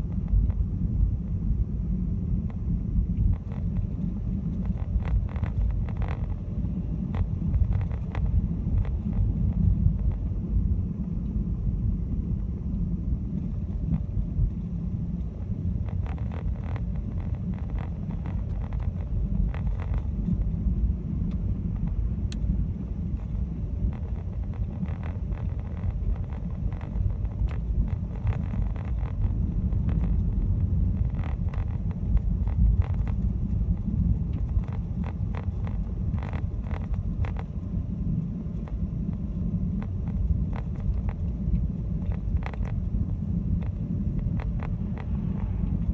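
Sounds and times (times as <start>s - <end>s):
crackling clicks: 0.0s - 0.7s, 3.2s - 10.3s, 12.7s - 45.9s
car engine and tyres rumbling: 0.0s - 45.9s.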